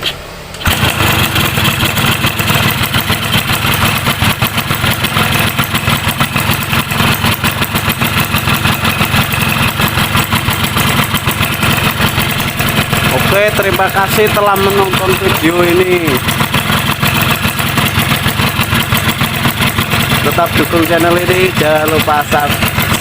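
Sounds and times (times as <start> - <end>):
two-stroke engine idling: 0.6 - 23.0.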